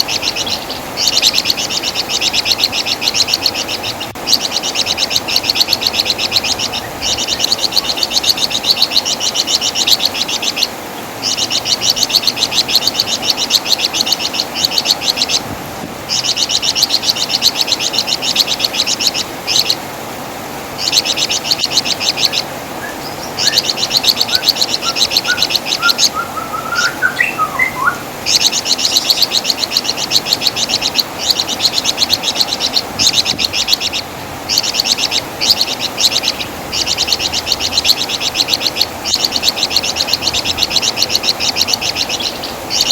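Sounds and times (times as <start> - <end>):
songbird chattering trill: 0.0 - 15.5, 16.1 - 19.8, 20.8 - 42.9.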